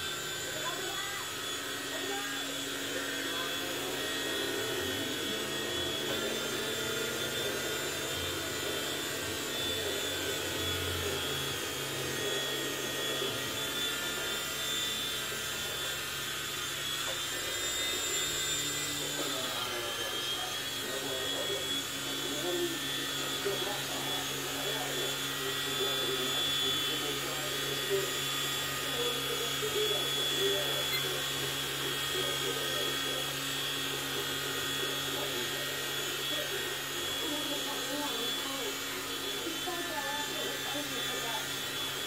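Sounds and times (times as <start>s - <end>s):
toy helicopter motors whirring: 0.0s - 42.0s.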